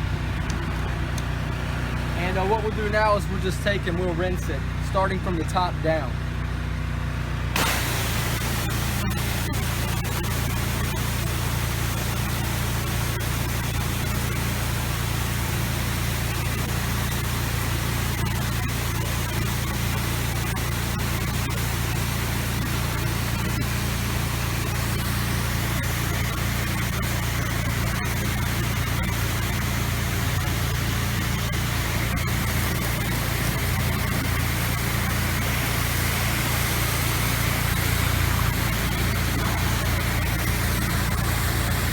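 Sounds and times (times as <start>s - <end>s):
pressure washer engine hum: 0.0s - 41.9s
hissing water spray on siding: 7.6s - 41.9s.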